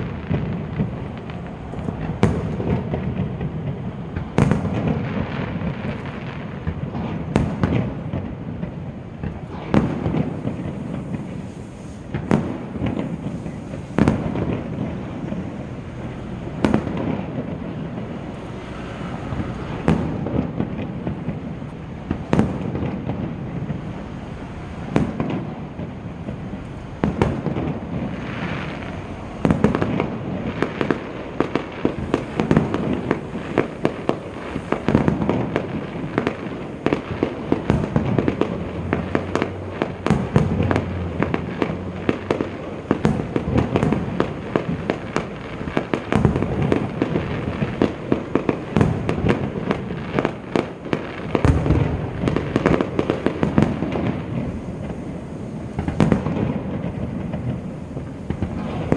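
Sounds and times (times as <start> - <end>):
distant fireworks bangs: 0.0 - 58.9
fireworks pops and crackling: 0.0 - 58.9.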